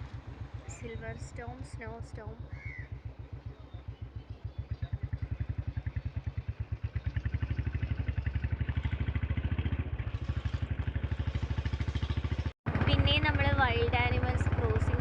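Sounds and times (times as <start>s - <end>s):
motorcycle engine thumping: 0.0s - 15.0s.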